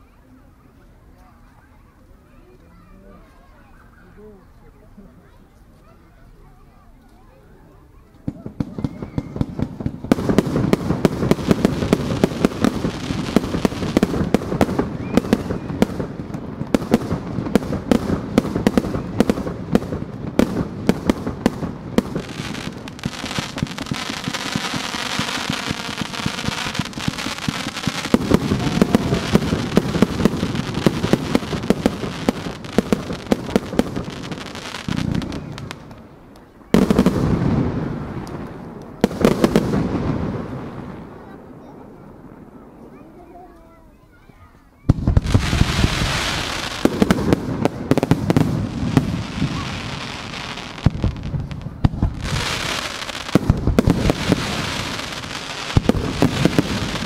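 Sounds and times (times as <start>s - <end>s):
hissing crackle of fireworks: 0.0s - 57.0s
fireworks bangs: 8.2s - 44.0s, 44.8s - 57.0s.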